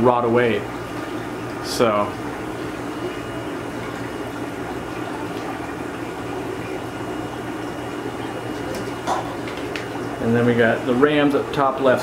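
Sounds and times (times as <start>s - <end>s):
aquarium water bubbling: 0.0s - 12.0s.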